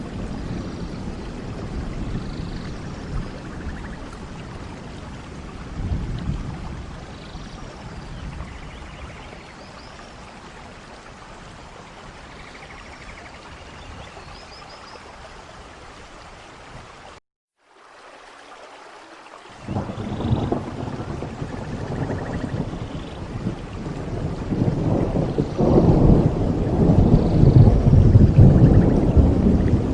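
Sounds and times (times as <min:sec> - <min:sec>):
heavy rain on foliage: 0:00.0 - 0:29.9.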